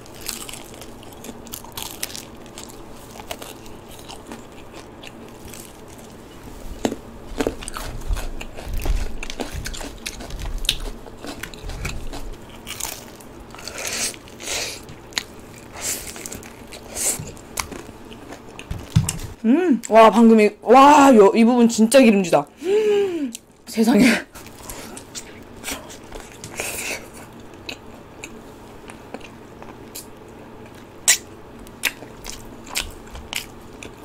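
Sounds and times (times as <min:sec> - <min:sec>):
crunchy chewing: 0:00.0 - 0:19.3, 0:24.4 - 0:34.0.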